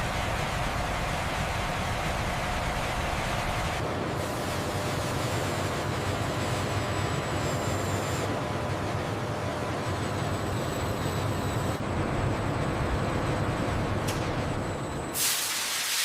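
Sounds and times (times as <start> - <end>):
factory machinery hiss and rumble: 0.0 - 16.0.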